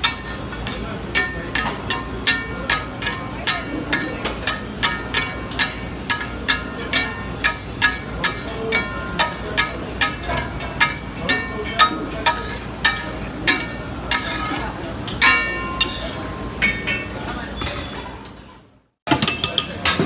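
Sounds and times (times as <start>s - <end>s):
metal spatula clanking on griddle: 0.0s - 17.9s.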